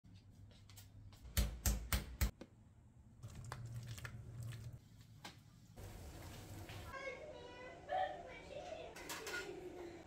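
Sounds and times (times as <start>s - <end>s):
faint kitchen sounds: 0.0s - 10.0s.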